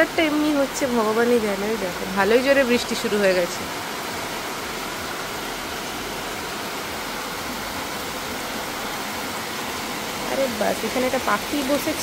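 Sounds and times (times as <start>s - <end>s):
heavy rain downpour: 0.0s - 12.0s.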